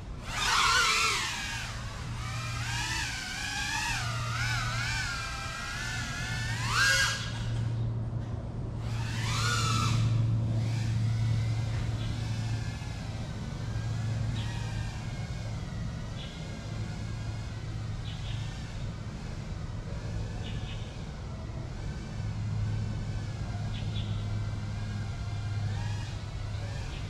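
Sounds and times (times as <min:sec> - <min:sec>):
drone propellers whining: 0:00.0 - 0:27.0.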